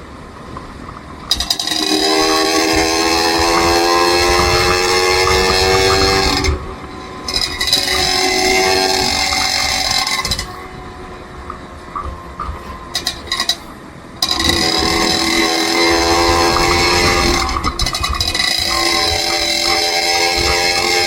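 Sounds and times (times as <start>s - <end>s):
road vehicle drone: 0.0s - 21.0s
clicks: 0.5s - 10.8s, 11.4s - 21.0s.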